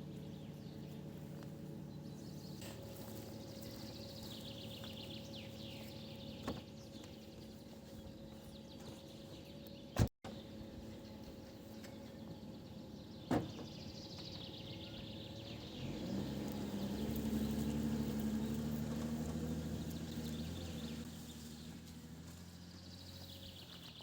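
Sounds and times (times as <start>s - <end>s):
birds singing: 0.0s - 24.0s
distant engine hum: 0.0s - 24.0s.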